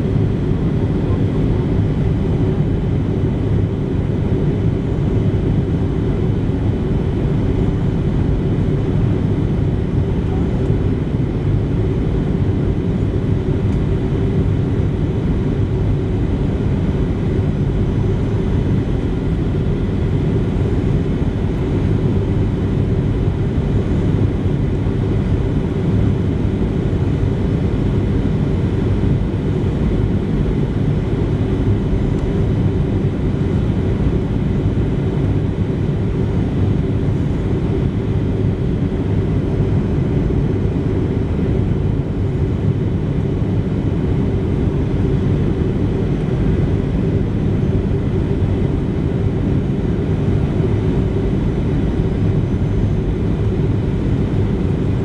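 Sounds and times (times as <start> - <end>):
airplane cabin noise: 0.0 - 55.0
jet engines humming: 0.0 - 55.0.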